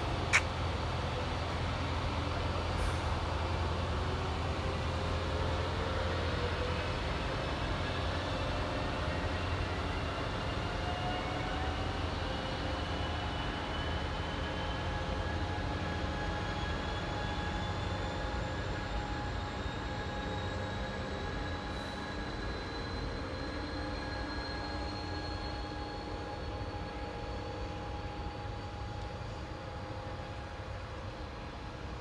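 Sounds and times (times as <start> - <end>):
diesel locomotive engine hum: 0.0 - 32.0
rising whine of train: 0.0 - 32.0.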